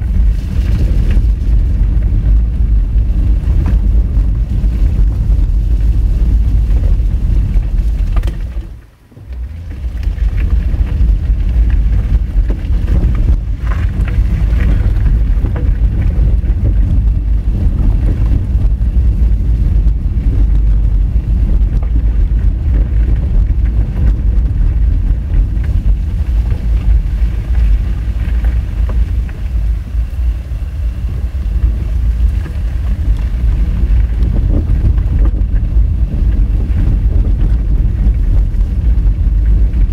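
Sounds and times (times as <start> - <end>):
tyres rumbling on gravel road: 0.0 - 39.9.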